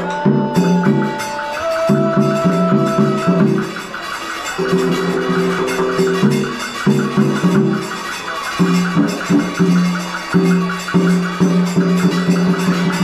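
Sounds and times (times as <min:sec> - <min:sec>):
instrumental music with low notes: 0:00.0 - 0:13.0.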